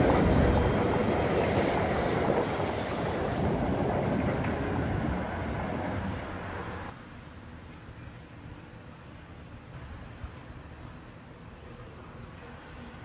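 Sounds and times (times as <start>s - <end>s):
tram rolling along rails: 0.0s - 13.0s.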